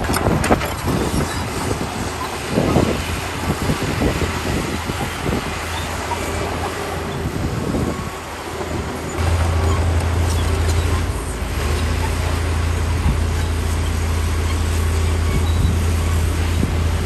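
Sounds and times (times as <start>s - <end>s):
diesel engine running: 0.0s - 17.0s
grinding clatter of tracks: 0.0s - 17.0s.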